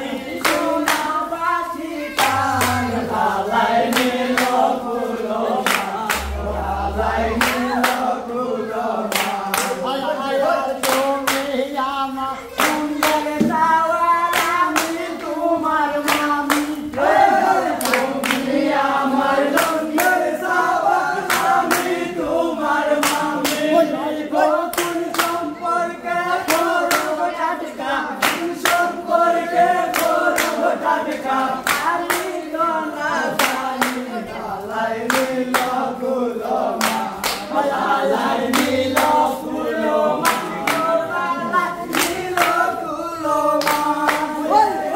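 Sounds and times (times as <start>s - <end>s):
men singing in chorus: 0.0s - 44.9s
hand claps: 0.1s - 6.8s, 7.4s - 8.5s, 9.1s - 10.1s, 10.7s - 11.8s, 12.5s - 25.6s, 26.3s - 27.4s, 28.1s - 34.4s, 35.0s - 44.8s.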